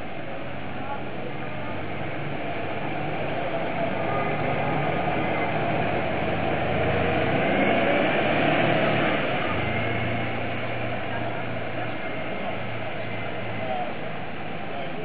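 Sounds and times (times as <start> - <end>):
bus diesel engine passing: 0.0 - 15.0.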